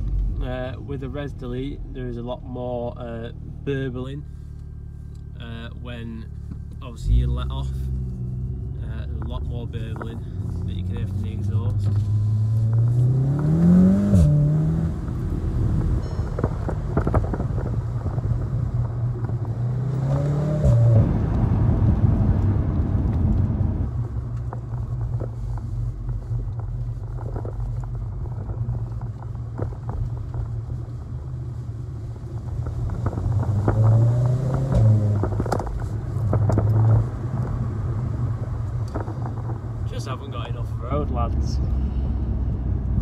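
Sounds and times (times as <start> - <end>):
car engine accelerating from cabin: 0.0 - 43.0.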